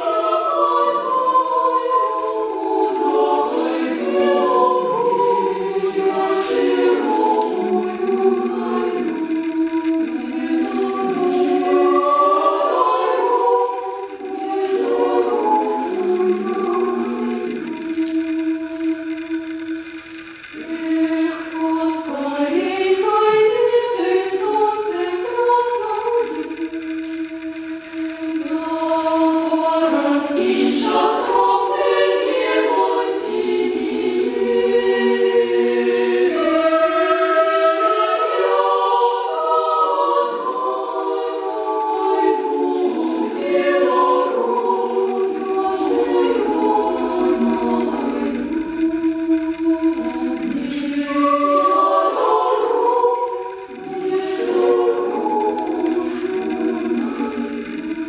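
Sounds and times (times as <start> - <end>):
women's choir singing a cappella: 0.0 - 58.0.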